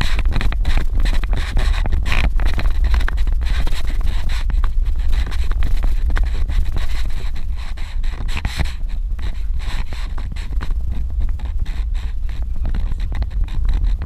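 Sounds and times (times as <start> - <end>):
car engine rumbling: 0.0 - 14.0
small knocks and rattles: 0.0 - 14.0
tyres scraping loose ground: 0.0 - 14.0.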